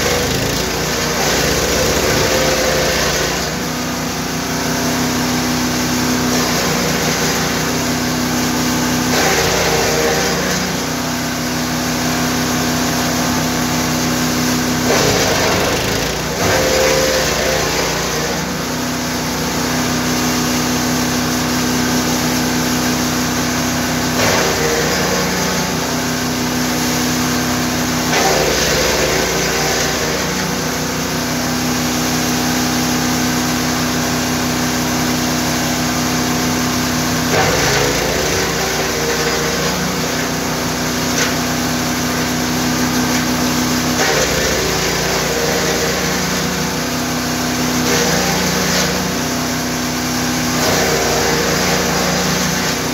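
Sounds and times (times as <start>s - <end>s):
wood chipper engine running: 0.0s - 52.9s.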